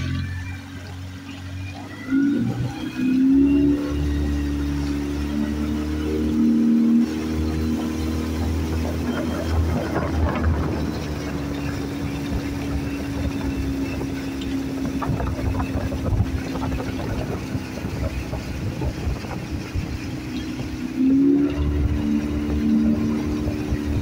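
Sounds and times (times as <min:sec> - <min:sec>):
outboard motor droning: 0:00.0 - 0:24.0
water and wind rushing: 0:00.0 - 0:24.0.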